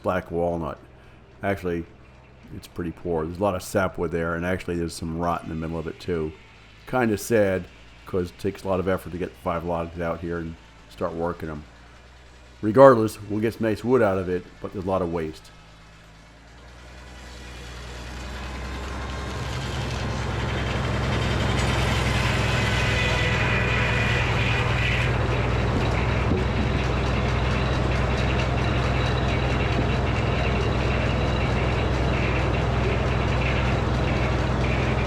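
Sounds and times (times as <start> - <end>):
low engine drone: 0.0 - 35.0
sawmill machine whine: 0.0 - 35.0.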